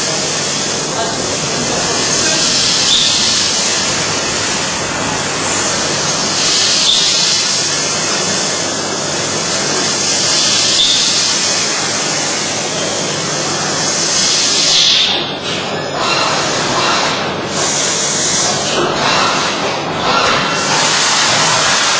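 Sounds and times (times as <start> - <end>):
cnc machine hissing: 0.0 - 21.9.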